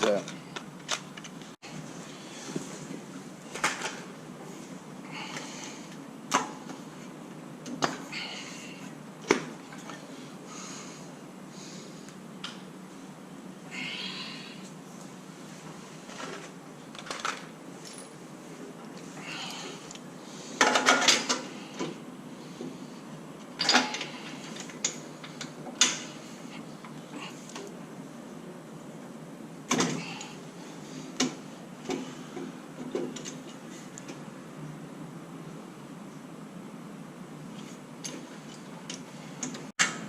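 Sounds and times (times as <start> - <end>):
steady background hiss: 0.0 - 40.0.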